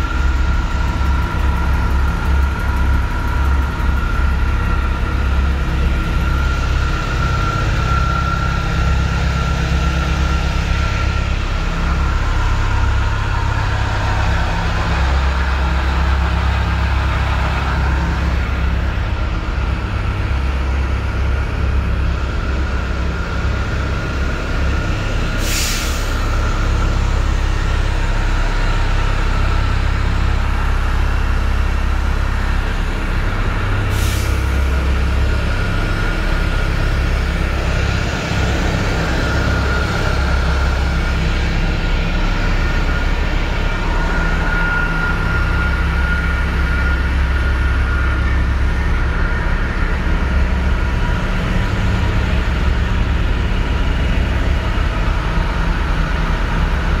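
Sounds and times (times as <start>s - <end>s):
bus engine idling: 0.0s - 57.0s
faint steady whine: 0.0s - 57.0s.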